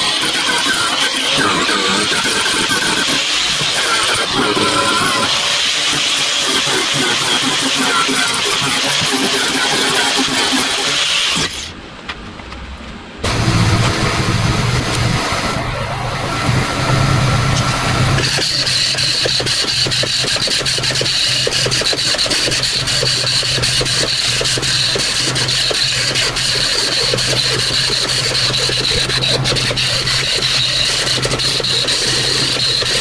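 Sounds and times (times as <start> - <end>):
abrasive scratching metal: 0.0 - 11.7, 13.2 - 33.0
pneumatic grinder whining: 0.0 - 11.8, 13.2 - 33.0.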